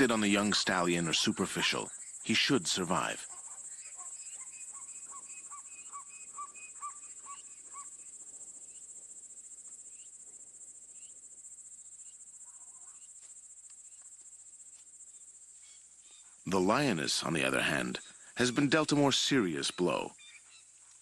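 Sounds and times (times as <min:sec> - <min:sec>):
crickets chirring: 0:00.0 - 0:21.0
faint scattered chirps: 0:00.0 - 0:21.0.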